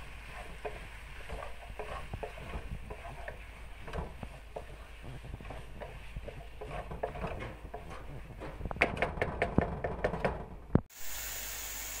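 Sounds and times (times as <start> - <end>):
wooden spatula scraping a wok: 0.0 - 10.2.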